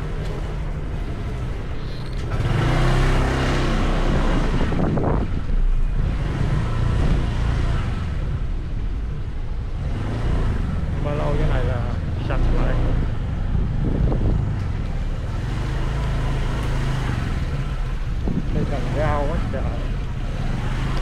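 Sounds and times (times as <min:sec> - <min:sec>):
vehicle engines and traffic: 0:00.0 - 0:21.0.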